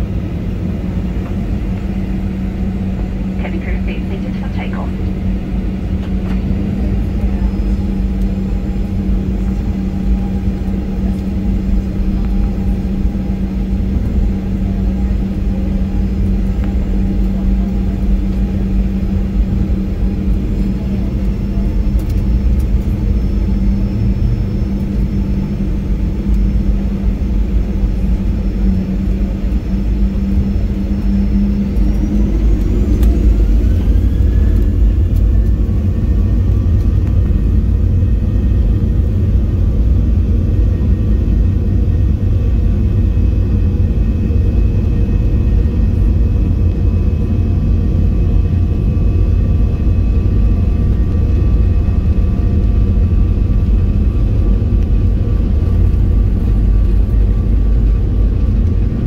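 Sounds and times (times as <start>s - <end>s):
aircraft cabin engine rumble: 0.0s - 59.0s
jet engines spooling up whine: 0.0s - 59.0s.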